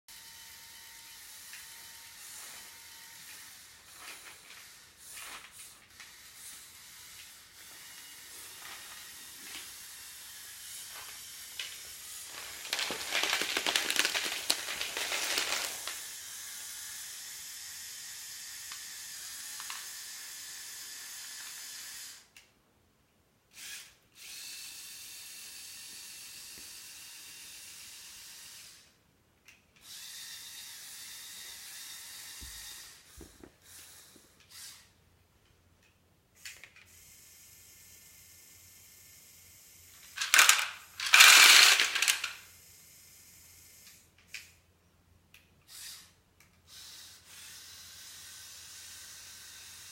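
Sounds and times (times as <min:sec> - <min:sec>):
toy mechanism hissing and whining: 0:00.1 - 0:22.4, 0:23.5 - 0:29.0, 0:29.8 - 0:35.0, 0:36.4 - 0:44.7, 0:45.6 - 0:49.9.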